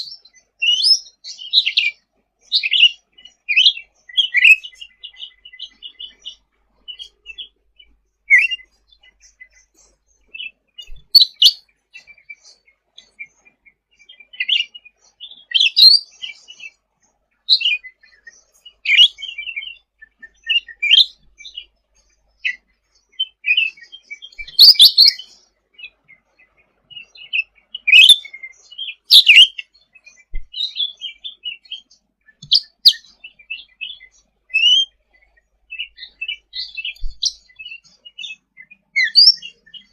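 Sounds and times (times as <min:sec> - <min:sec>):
songbird chirping and whistling: 0:00.0 - 0:39.9.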